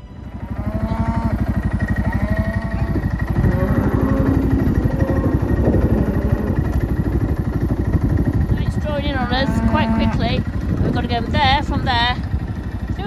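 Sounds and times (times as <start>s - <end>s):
motorbike engine running: 0.0s - 13.0s
drawn-out calls: 0.2s - 13.0s.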